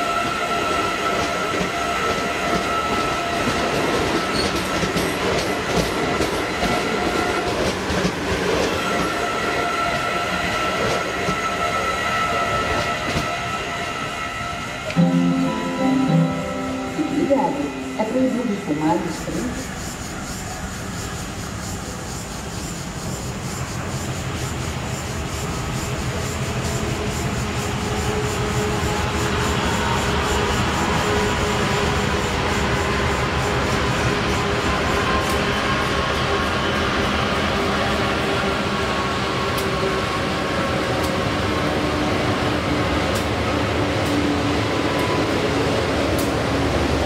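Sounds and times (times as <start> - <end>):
diesel locomotives passing: 0.0 - 47.0.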